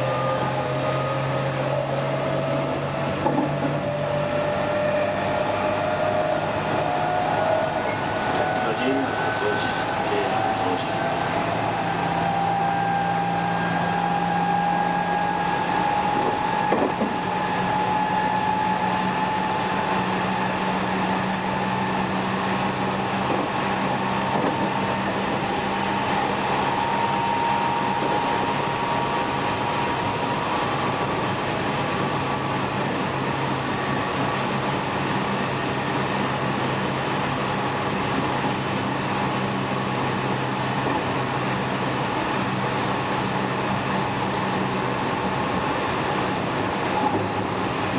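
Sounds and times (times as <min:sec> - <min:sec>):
train low rumble: 0:00.0 - 0:47.9.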